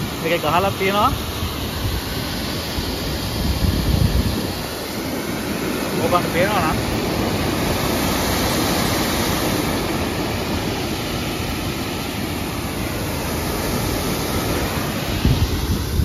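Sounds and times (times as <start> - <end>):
steady rushing noise: 0.0 - 16.0
wind buffeting microphone: 0.0 - 16.0.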